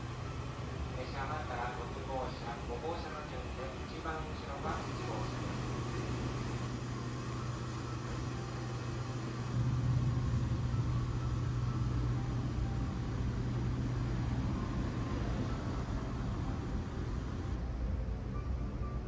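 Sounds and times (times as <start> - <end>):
train car hum and rumble: 0.0 - 19.0.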